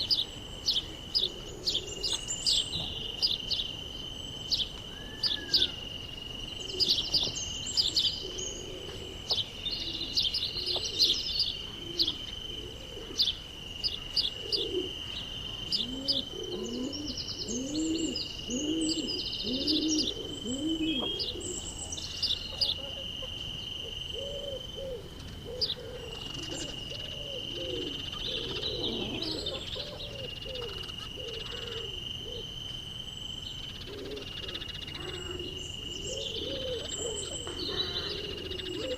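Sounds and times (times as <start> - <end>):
dove cooing: 0.0 - 3.6, 6.6 - 32.5, 33.8 - 38.9
small birds chirping: 0.0 - 23.4, 24.1 - 32.4, 33.1 - 38.9.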